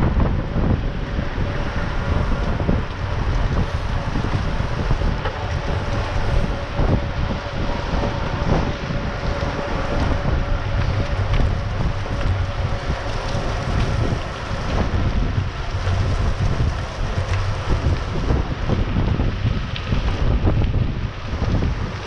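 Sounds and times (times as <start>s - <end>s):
bike tyres rolling on asphalt: 0.0s - 22.0s
wind buffeting microphone: 0.0s - 22.0s.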